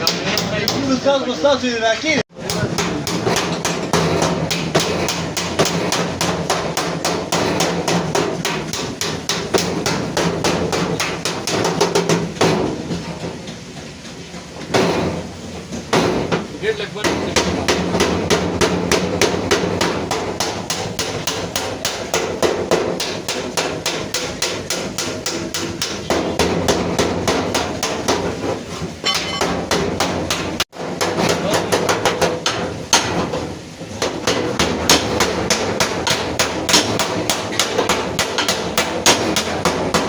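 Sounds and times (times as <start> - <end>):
hammer beating sheet metal: 0.0 - 1.0, 2.4 - 13.4, 14.6 - 15.3, 15.9 - 40.0.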